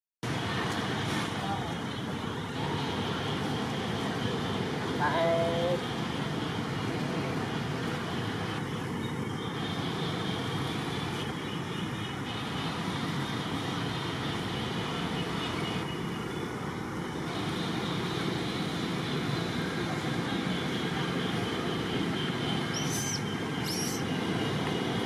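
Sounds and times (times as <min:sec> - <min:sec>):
outdoor rumble and hiss: 0:00.2 - 0:25.0.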